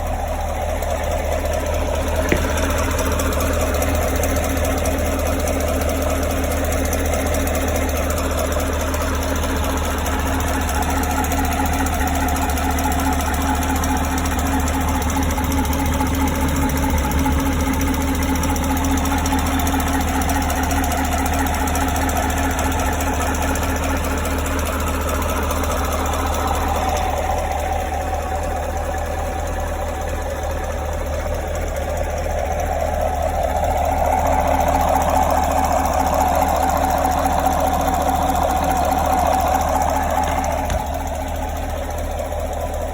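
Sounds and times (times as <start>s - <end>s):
car engine idling: 0.0s - 42.9s
fast engine ticking: 0.0s - 42.9s.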